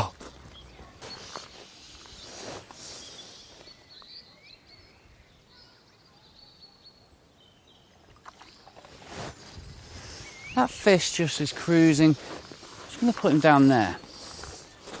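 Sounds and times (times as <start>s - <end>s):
distant birdsong chirping: 0.4s - 14.6s.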